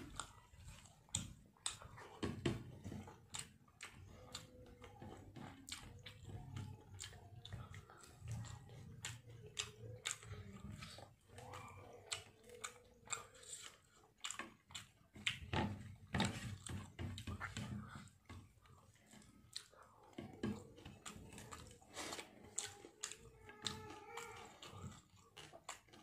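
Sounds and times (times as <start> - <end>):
wet chewing and mouth smacks: 0.0 - 26.0.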